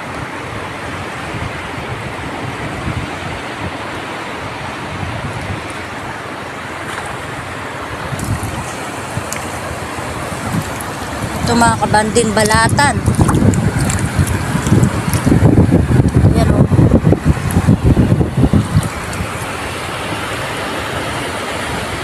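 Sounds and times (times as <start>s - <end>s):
sea waves washing: 0.0s - 22.0s
wind buffeting microphone: 0.0s - 22.0s.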